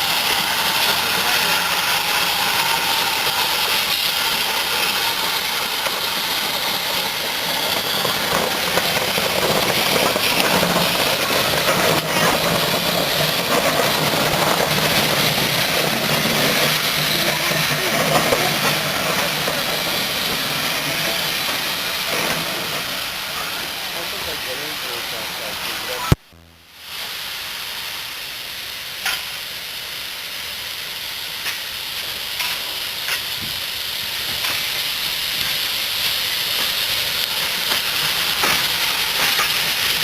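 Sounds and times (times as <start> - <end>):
steam locomotive hissing: 0.0 - 26.2, 26.8 - 40.0.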